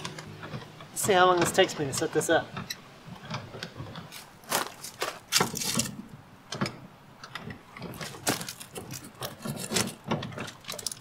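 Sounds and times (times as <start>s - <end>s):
metal clanks and knocks: 0.0s - 11.0s
trailer jack being cranked: 0.0s - 11.0s.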